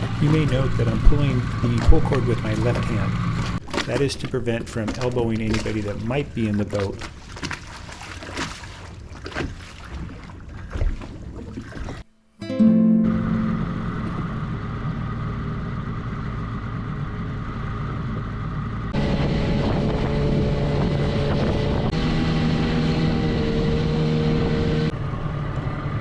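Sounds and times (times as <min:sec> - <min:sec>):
outboard motor droning: 0:00.0 - 0:12.1, 0:12.8 - 0:26.0.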